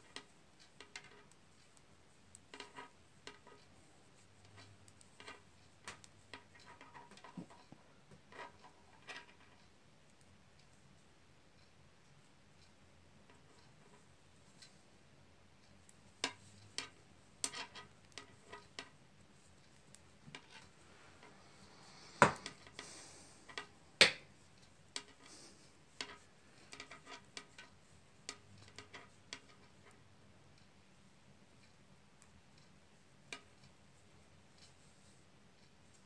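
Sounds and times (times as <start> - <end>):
knitting needles clicking: 0.0 - 14.8, 15.6 - 30.0, 31.5 - 36.0.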